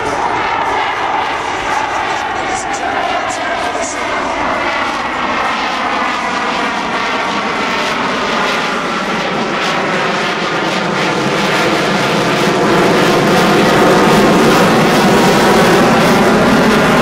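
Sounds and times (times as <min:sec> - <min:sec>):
jet engines rushing with whine: 0:00.0 - 0:17.0.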